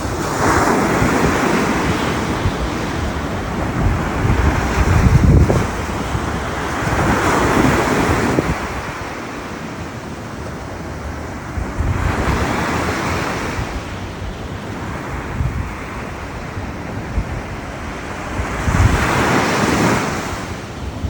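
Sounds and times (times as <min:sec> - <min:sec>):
ocean waves breaking on beach: 0:00.0 - 0:21.0
wind buffeting microphone: 0:00.0 - 0:21.0.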